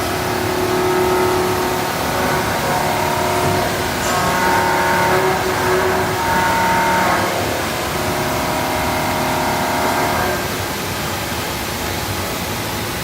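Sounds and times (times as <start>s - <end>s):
grinder whine: 0.0s - 10.8s.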